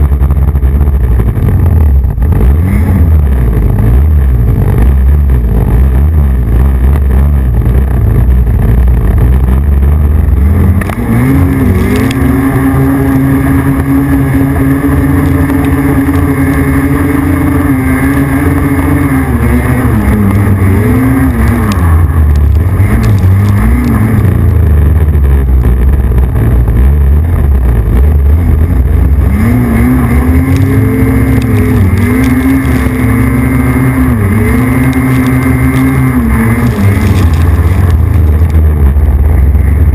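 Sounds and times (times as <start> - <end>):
snowmobile engine running hard: 0.0 - 39.9.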